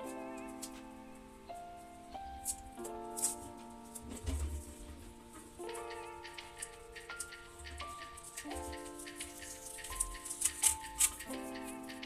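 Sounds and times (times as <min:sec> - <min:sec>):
held chords: 0:00.0 - 0:12.0
crisp percussion ticks: 0:02.2 - 0:12.0.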